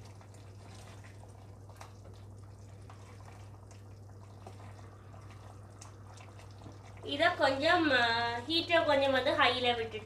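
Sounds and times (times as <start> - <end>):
curry simmering with pops: 0.0 - 10.0
steady low hum: 0.0 - 10.0.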